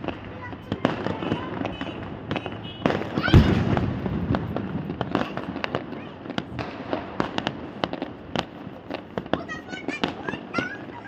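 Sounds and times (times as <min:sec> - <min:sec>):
fireworks cracking and popping: 0:00.0 - 0:11.0.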